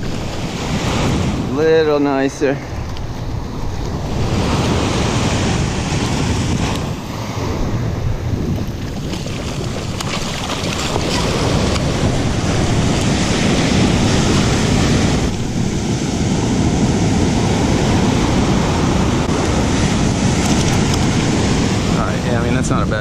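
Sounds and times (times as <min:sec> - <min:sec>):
ocean surf washing up: 0:00.0 - 0:23.0
wind buffeting microphone: 0:00.0 - 0:23.0.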